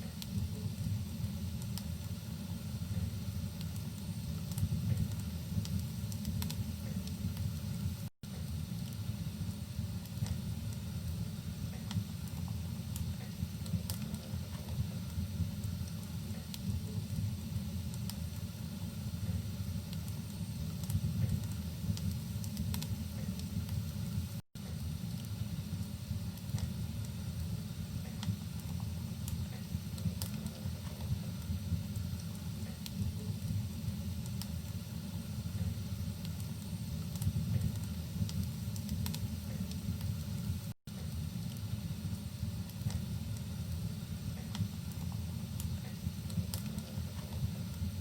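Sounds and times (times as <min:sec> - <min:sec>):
fireplace crackling: 0:00.0 - 0:48.0
rain hissing: 0:00.0 - 0:48.0.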